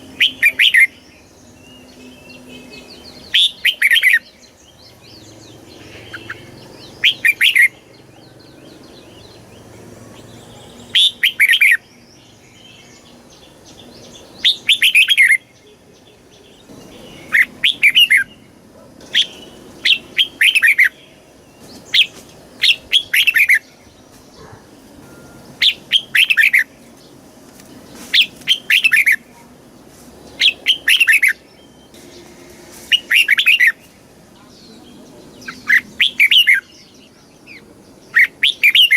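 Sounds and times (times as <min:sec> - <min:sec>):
bird singing warbled phrases: 0:00.0 - 0:38.9.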